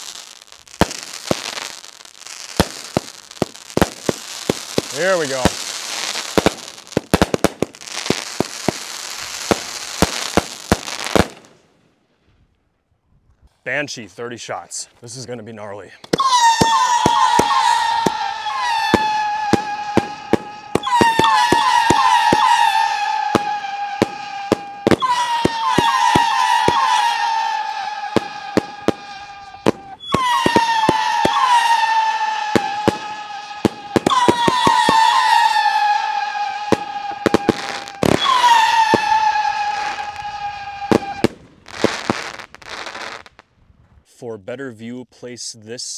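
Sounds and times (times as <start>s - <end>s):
firework crackling hiss: 0.0s - 11.6s, 16.1s - 43.4s
firework bangs and pops: 0.0s - 11.8s, 16.0s - 43.5s.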